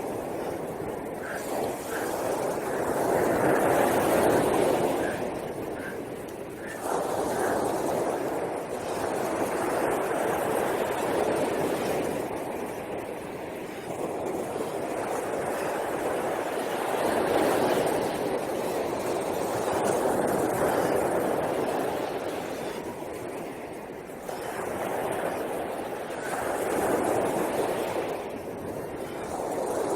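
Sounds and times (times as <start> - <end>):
sea surf washing onto beach: 0.0 - 29.9.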